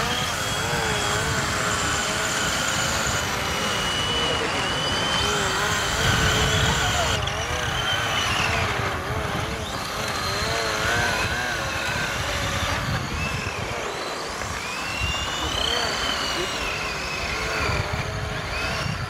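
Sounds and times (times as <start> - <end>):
model car motors whining: 0.0 - 19.0.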